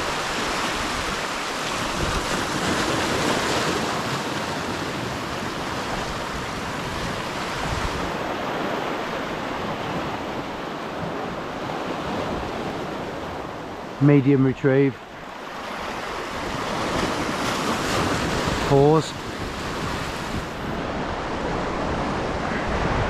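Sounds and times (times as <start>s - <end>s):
sea waves washing over rocks: 0.0s - 14.1s, 14.8s - 23.0s.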